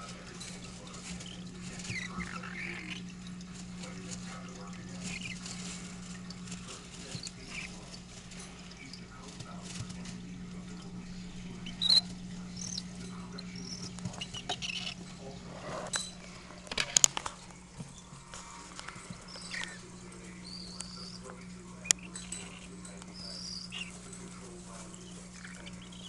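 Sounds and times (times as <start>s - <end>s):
chicks chirping: 0.0s - 16.6s, 17.3s - 26.0s
chicks scrabbling and scratching: 0.0s - 26.0s
steady low hum: 0.0s - 26.0s.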